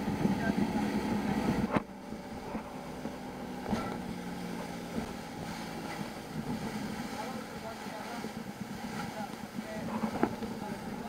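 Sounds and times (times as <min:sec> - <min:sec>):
motorboat engine running: 0:00.0 - 0:11.0
water rushing in wake: 0:00.0 - 0:11.0.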